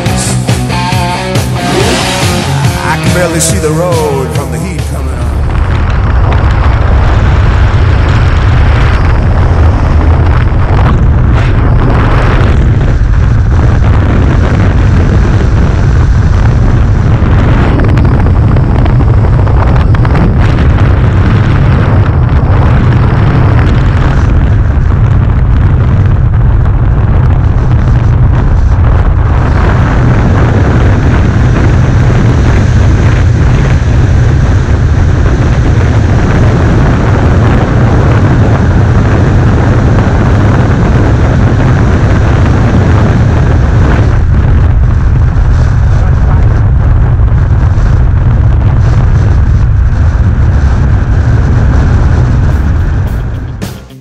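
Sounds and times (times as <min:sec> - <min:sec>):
wind buffeting microphone: 0:01.5 - 0:53.6.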